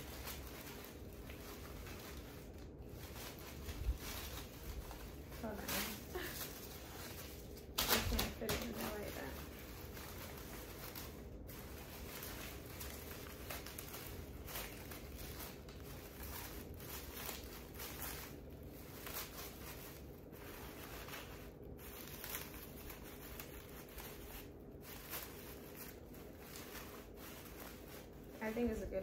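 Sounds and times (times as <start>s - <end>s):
faint rustling and handling: 0.0s - 29.0s.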